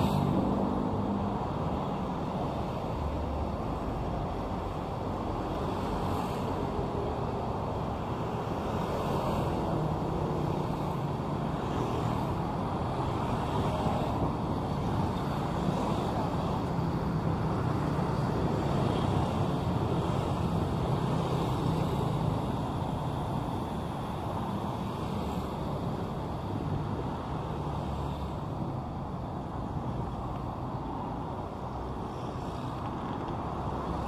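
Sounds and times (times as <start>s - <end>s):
rumble of passing cars: 0.0s - 34.0s.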